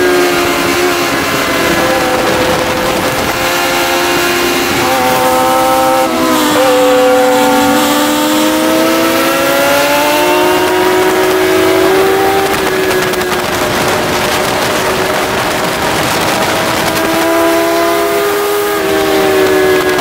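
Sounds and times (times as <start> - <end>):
motorcycle engine running hard: 0.0 - 20.0
wind noise: 0.0 - 20.0.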